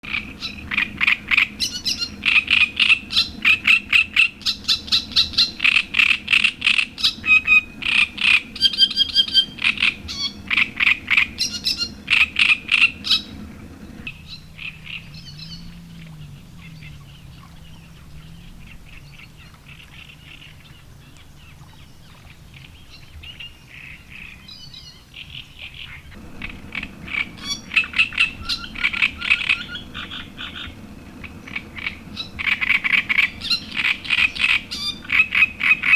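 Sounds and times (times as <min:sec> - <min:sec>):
faint bird chirps: 0:00.1 - 0:35.9.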